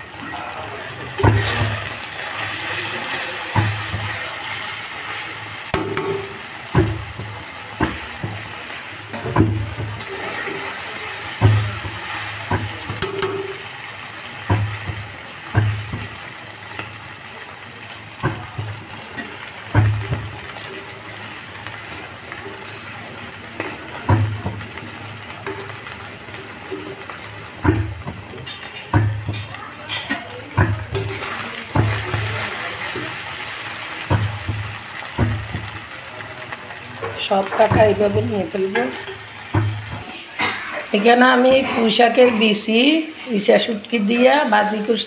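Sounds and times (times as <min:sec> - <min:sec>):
onions and fish sizzling in oil: 0:00.0 - 0:45.0.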